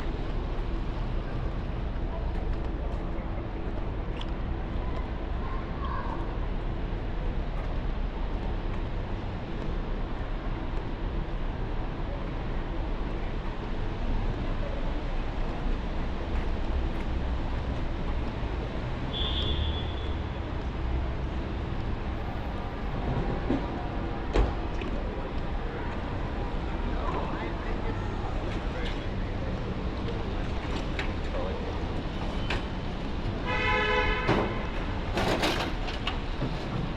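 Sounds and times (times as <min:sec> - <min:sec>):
city street traffic: 0:00.0 - 0:36.9.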